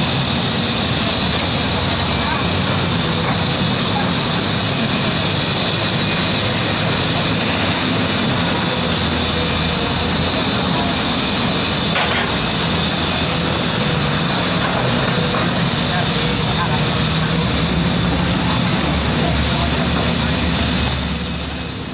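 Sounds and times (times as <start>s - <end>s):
excavator diesel engine running: 0.0s - 21.9s
high hydraulic whine: 0.0s - 21.9s.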